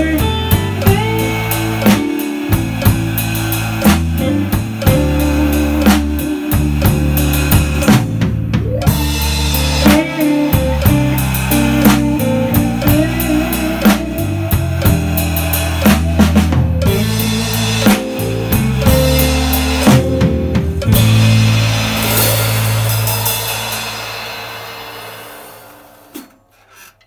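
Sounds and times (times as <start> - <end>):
backing track with bass notes: 0.0 - 25.7
drum kit blues groove: 0.0 - 26.8.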